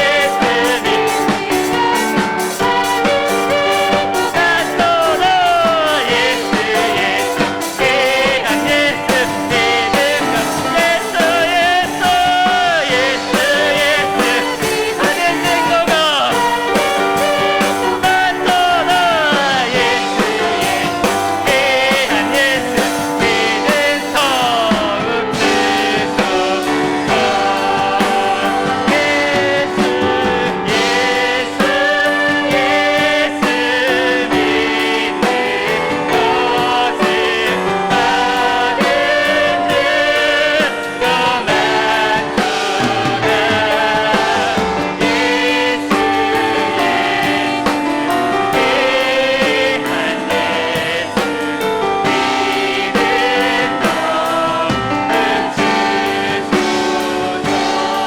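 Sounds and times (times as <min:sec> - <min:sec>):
drums: 0:00.0 - 0:58.0
group singing gospel song: 0:00.0 - 0:58.0
piano: 0:00.0 - 0:58.0.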